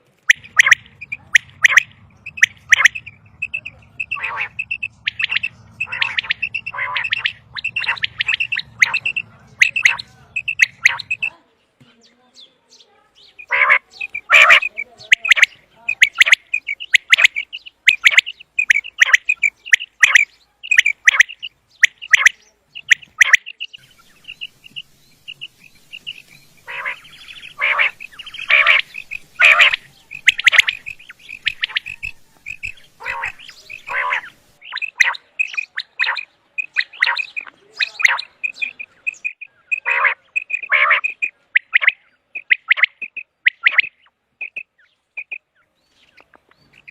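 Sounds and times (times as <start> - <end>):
quail calling: 0.0 - 11.4, 13.4 - 45.5, 46.1 - 46.9.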